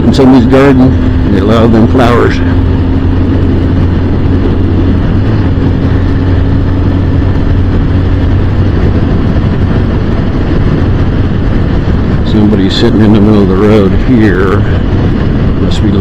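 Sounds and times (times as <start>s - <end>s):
motorcycle engine working hard: 0.0s - 16.0s
wind and road noise: 0.0s - 16.0s.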